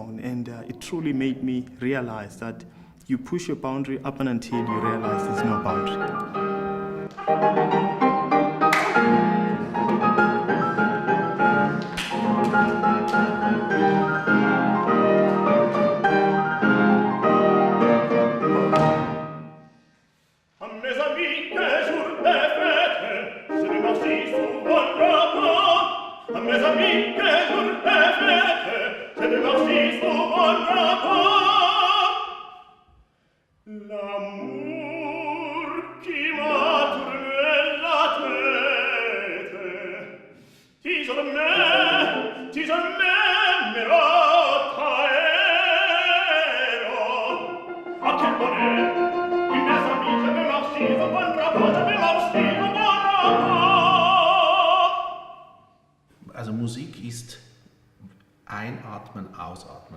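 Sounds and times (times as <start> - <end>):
operatic singing with vibrato: 0.0 - 19.8, 20.5 - 55.8.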